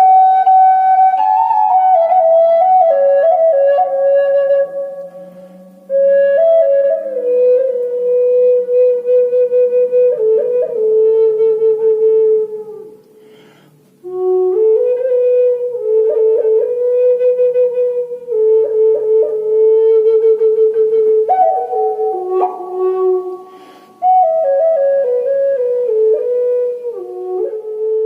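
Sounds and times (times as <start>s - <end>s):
flute playing slow melody: 0.0s - 28.0s.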